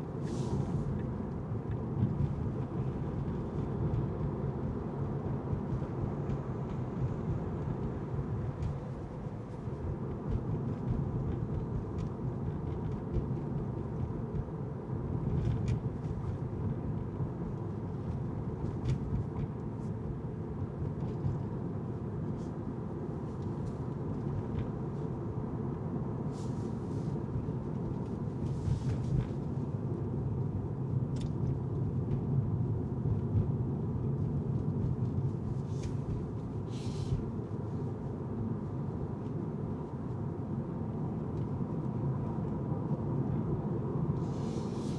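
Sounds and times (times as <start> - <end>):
car tyres and engine rumble: 0.0 - 44.9.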